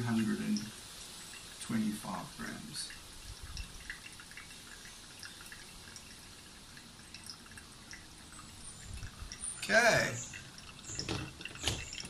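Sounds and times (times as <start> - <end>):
water trickling onto coffee grounds: 0.0 - 12.0.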